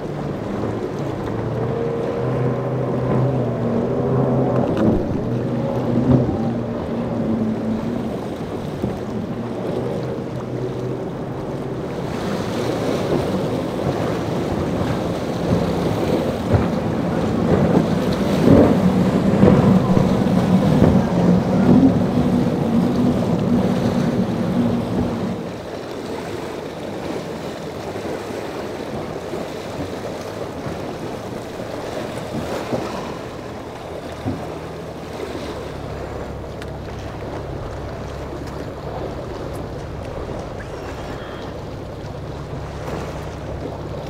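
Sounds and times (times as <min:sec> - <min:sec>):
hull slapping water: 0:00.0 - 0:44.0
outboard motors running: 0:00.0 - 0:44.0
water spray and wave wash: 0:00.0 - 0:44.0
wind on microphone: 0:00.0 - 0:44.0.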